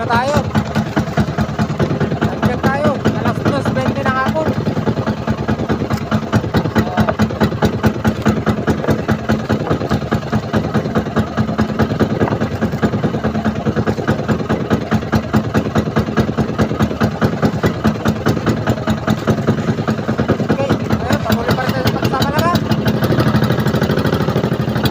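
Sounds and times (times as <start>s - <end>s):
boat engine chugging: 0.0s - 24.9s.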